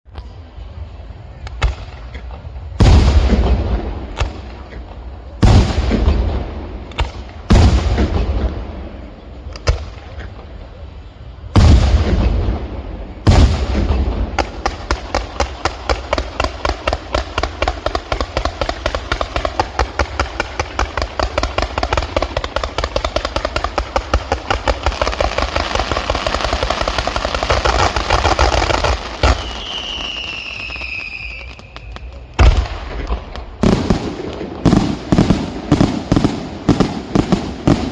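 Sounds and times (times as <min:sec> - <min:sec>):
firework shells booming: 0:02.8 - 0:10.6, 0:11.5 - 0:30.9, 0:32.3 - 0:37.9.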